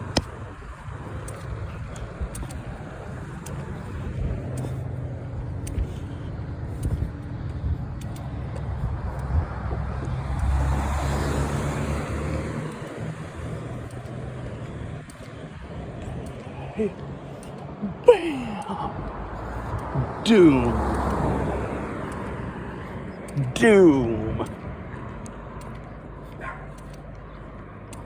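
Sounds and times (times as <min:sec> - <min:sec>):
car passing: 0:00.0 - 0:28.0
road traffic rumble: 0:00.0 - 0:28.0.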